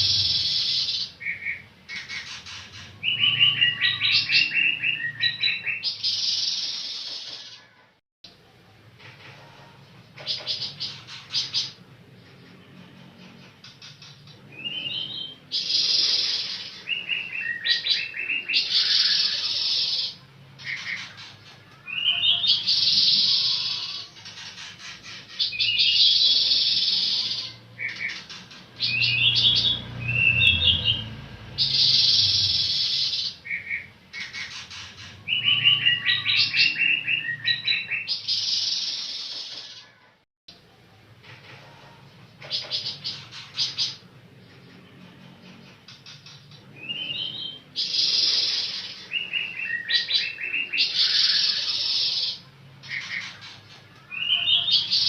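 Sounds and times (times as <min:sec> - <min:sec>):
songbird chirping and trilling: 0:00.0 - 0:07.9, 0:09.0 - 0:40.1, 0:41.7 - 0:55.0.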